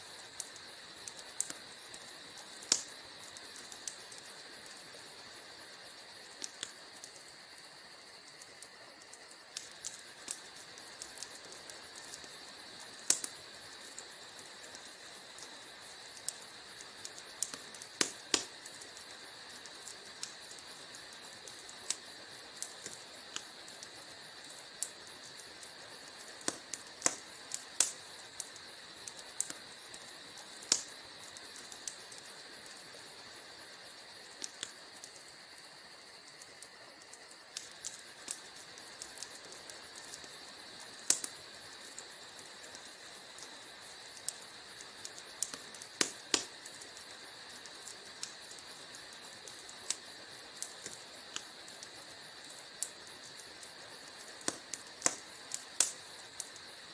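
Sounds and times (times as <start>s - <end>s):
fire crackling and popping: 0.0s - 56.9s
wood fire hissing: 0.0s - 56.9s.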